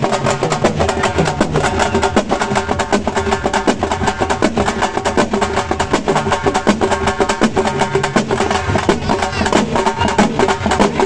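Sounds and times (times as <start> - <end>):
frame drums beaten with sticks: 0.0 - 11.0.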